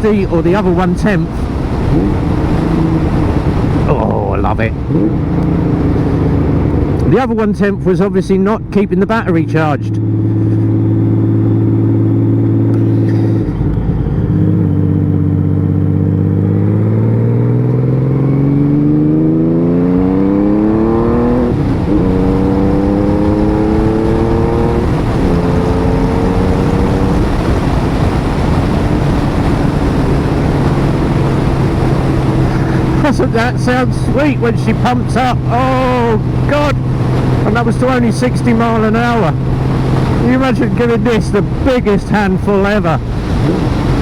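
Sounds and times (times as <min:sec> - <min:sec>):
wind rush: 0:00.0 - 0:14.6, 0:17.2 - 0:44.0
motorcycle engine accelerating: 0:00.0 - 0:44.0.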